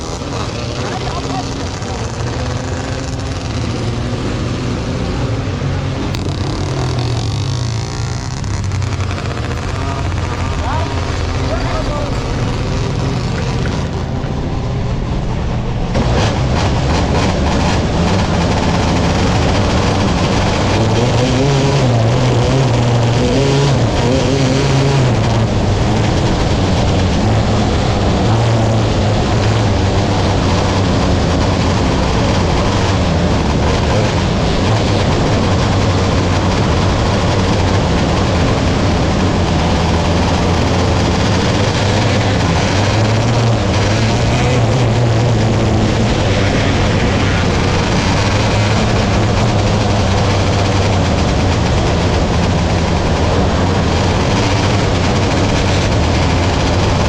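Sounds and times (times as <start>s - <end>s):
racing car engines: 0.0s - 57.0s.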